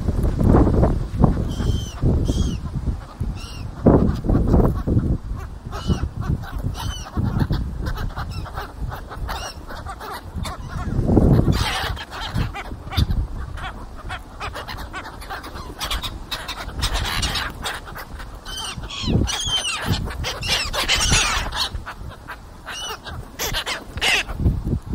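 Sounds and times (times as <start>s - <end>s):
background noise: 0.0s - 24.9s
gulls calling: 1.1s - 24.8s.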